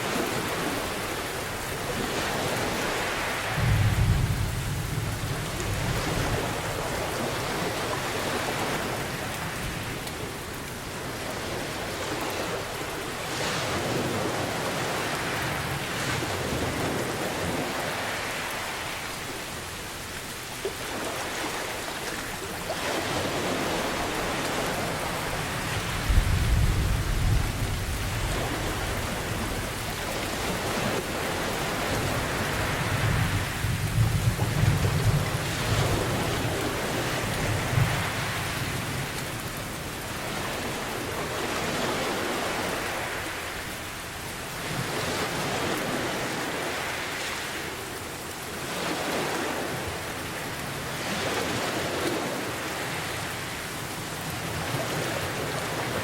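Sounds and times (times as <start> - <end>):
heavy rain: 0.0 - 56.0
ocean waves: 0.0 - 56.0.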